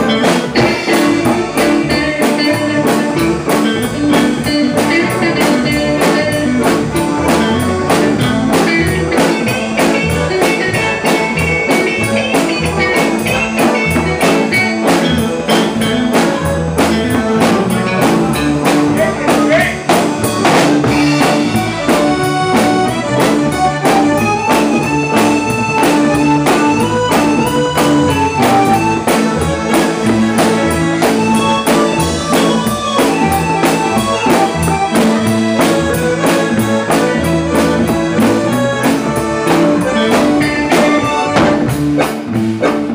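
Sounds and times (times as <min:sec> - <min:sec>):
drum kit busy beat: 0:00.0 - 0:42.9
live band playing: 0:00.0 - 0:42.9.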